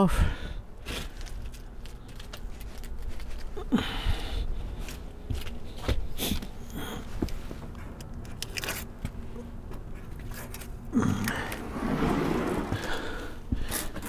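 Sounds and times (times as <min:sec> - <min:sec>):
tape rustling: 0:00.8 - 0:03.8, 0:04.5 - 0:14.0.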